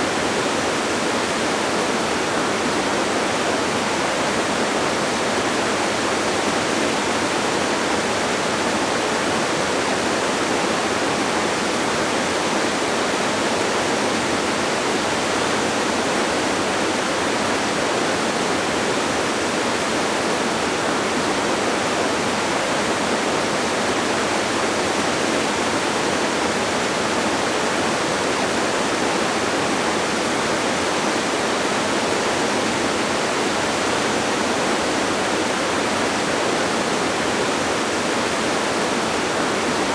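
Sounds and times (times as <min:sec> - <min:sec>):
distant waterfall rushing: 0:00.0 - 0:39.9.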